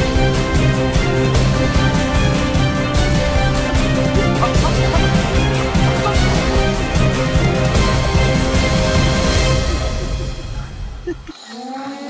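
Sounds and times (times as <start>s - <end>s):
background music: 0.0s - 11.3s.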